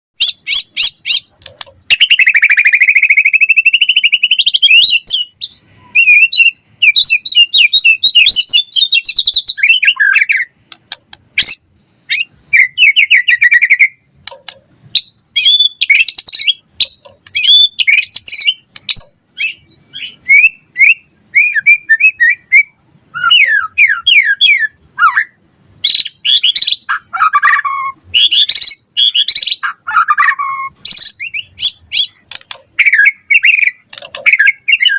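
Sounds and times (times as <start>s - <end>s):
bird singing loudly: 0.2s - 10.7s, 11.3s - 14.1s, 14.9s - 34.9s.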